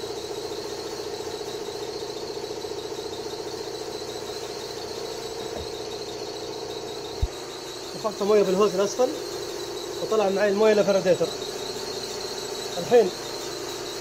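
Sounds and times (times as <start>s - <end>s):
compressed air whistling whine: 0.0s - 14.0s.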